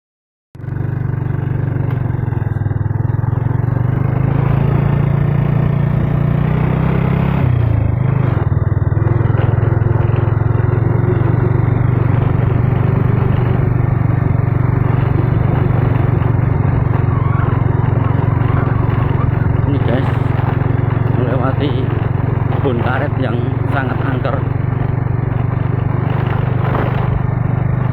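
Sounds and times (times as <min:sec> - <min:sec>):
motorcycle engine running: 0:00.6 - 0:27.9
wind and road noise: 0:00.6 - 0:27.9.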